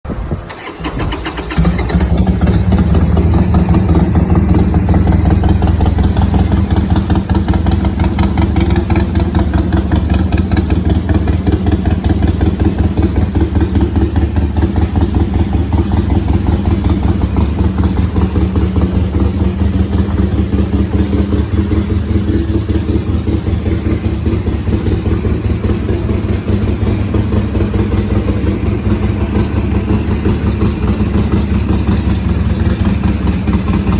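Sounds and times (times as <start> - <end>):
motorcycle engine idling: 1.4 - 33.9.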